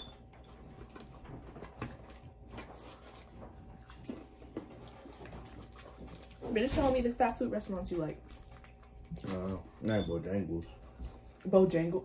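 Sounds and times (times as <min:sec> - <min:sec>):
faint chewing: 0:00.1 - 0:06.8, 0:07.6 - 0:12.0
paper wrapping rustling: 0:00.4 - 0:11.4.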